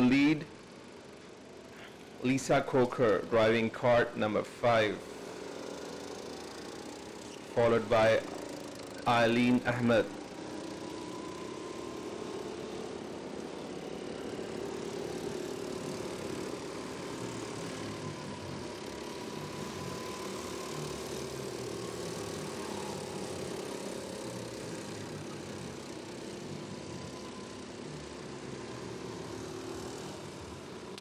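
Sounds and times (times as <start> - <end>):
go-kart engines droning: 0.0 - 31.0.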